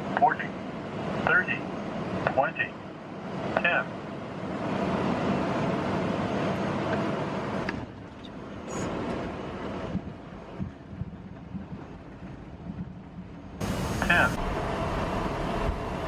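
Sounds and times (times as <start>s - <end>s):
jet engine and runway rushing: 0.0s - 16.0s.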